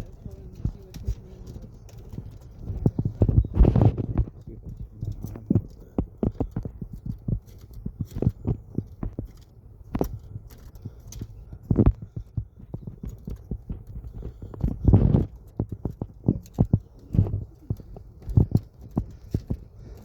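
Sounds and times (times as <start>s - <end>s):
footsteps on a trail: 0.0s - 20.0s.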